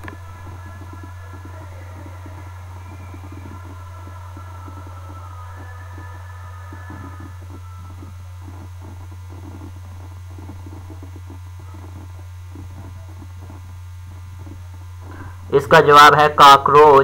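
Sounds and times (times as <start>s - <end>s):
faint high tones: 0.0s - 15.0s
steady low hum: 0.0s - 17.0s.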